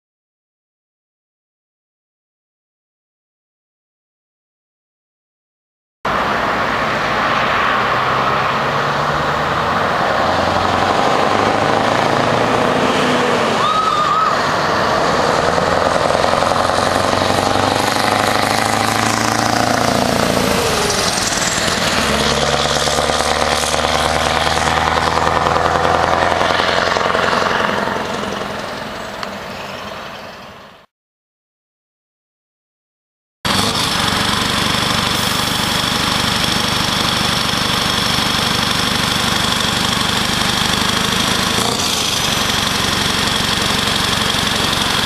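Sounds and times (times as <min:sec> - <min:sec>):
truck engine revving: 0:06.1 - 0:30.8, 0:33.5 - 0:45.0.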